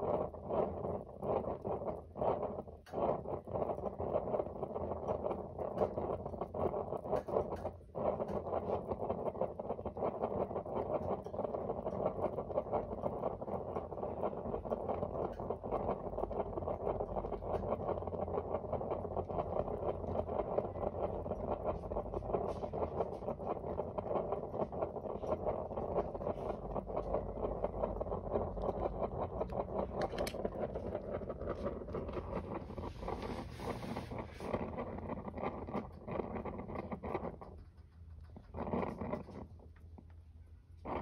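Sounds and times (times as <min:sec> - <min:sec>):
heater burner flame crackling: 0:00.0 - 0:41.0.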